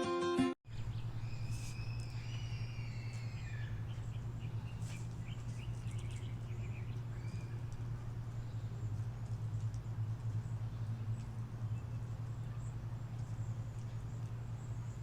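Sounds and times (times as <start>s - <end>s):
birds singing: 0.7s - 15.0s
steady low hum: 0.7s - 15.0s.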